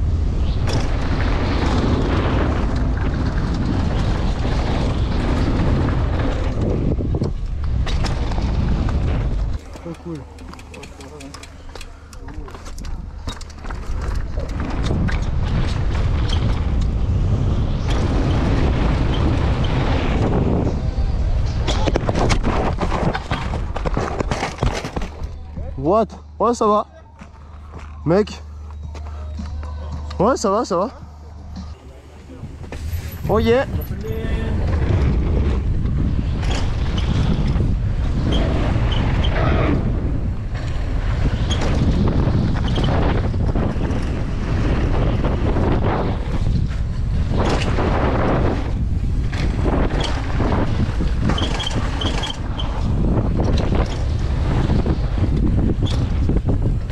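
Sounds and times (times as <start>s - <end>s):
bike tyres on dirt: 0.0s - 26.4s, 27.1s - 56.9s
wind buffeting microphone: 0.0s - 26.4s, 29.3s - 56.9s
bike rattles and knocks: 0.4s - 20.6s, 21.4s - 25.9s, 28.8s - 56.9s.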